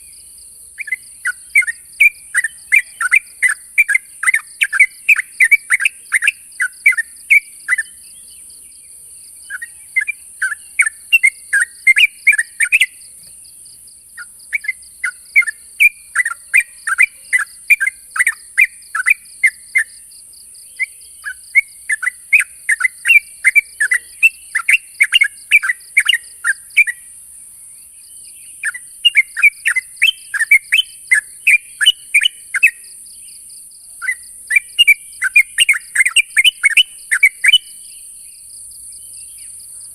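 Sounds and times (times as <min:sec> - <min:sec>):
bulbul chattering calls: 0:00.0 - 0:08.7, 0:09.5 - 0:13.3, 0:14.2 - 0:20.0, 0:20.7 - 0:27.1, 0:28.1 - 0:33.4, 0:34.0 - 0:38.2.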